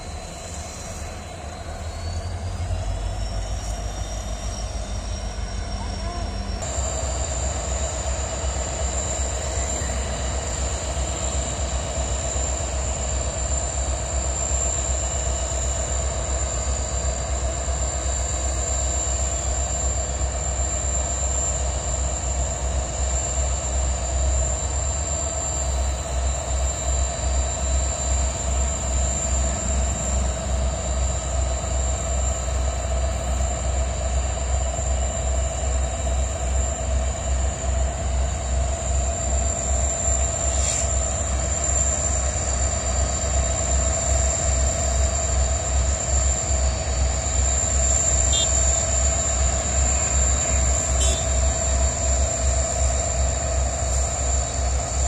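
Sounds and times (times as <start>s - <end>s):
deep diesel engine rumble: 0.0s - 55.0s
high-pitched whine: 0.0s - 55.0s.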